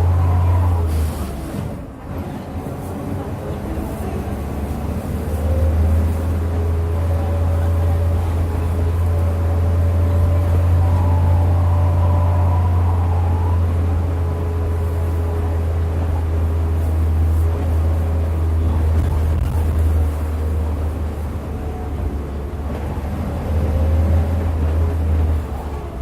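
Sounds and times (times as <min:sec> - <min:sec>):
bus engine low drone: 0:00.0 - 0:26.0.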